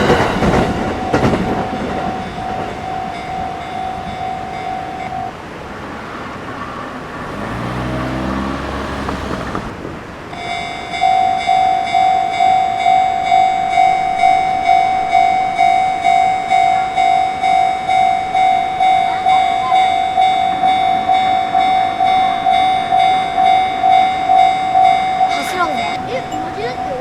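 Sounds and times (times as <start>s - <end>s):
level crossing warning bell ringing: 0.0s - 5.7s, 10.3s - 27.0s.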